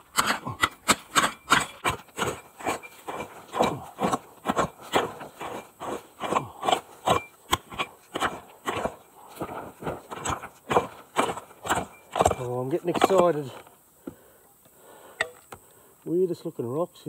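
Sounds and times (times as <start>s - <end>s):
pick chopping into gravelly ground: 0.0s - 13.7s
stones and dirt scraping: 0.0s - 14.2s.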